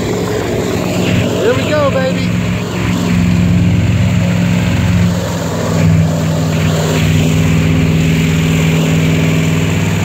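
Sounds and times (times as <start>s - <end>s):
airboat engine and propeller: 0.0s - 10.0s.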